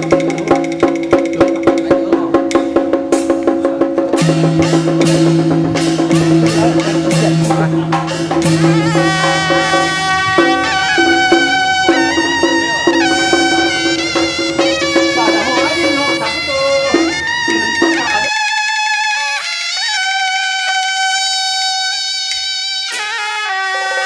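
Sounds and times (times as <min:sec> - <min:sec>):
sharp percussion strikes: 0:00.0 - 0:24.0
wind instrument melody: 0:04.1 - 0:24.0.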